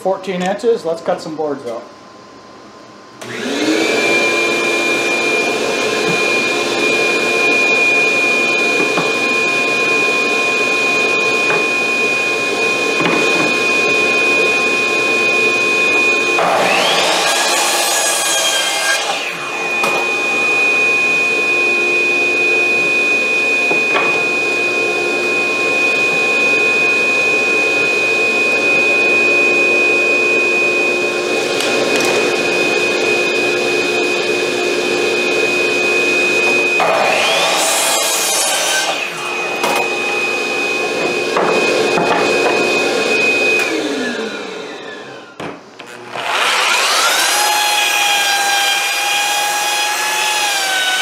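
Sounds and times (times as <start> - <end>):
power saw cutting wood: 3.2 - 26.5, 31.2 - 51.0
saw motor whine: 3.2 - 30.2, 31.0 - 51.0.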